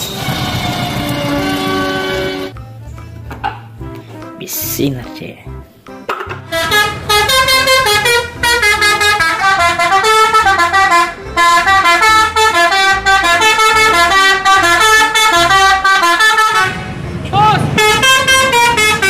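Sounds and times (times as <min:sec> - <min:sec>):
multi-tone bus horn tune: 0:00.0 - 0:02.6, 0:06.3 - 0:19.0.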